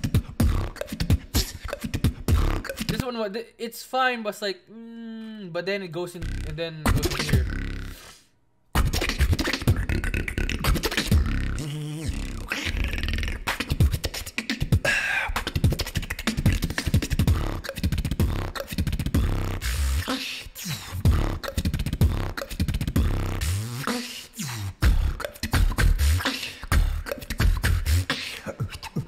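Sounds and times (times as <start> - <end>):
beatboxing into a microphone: 0.0 - 3.2, 6.1 - 29.0.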